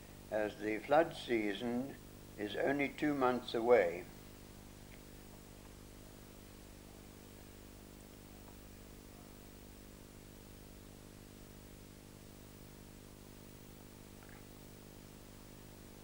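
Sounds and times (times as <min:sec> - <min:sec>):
faint steady hiss: 0:00.0 - 0:16.0
low electrical hum: 0:00.0 - 0:16.0.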